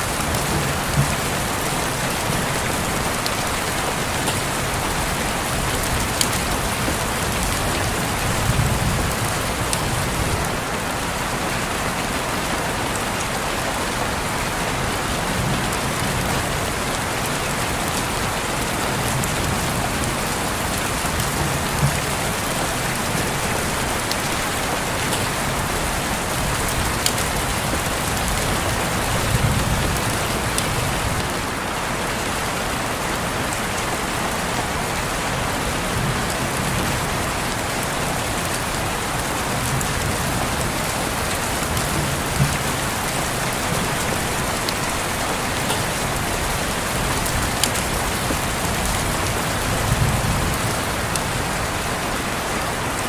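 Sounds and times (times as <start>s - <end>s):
rain on a window pane: 0.0s - 53.0s.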